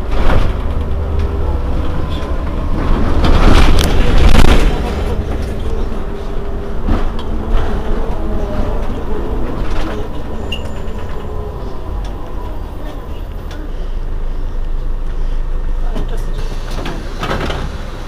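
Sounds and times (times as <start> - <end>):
bus diesel engine idling: 0.7 - 18.0.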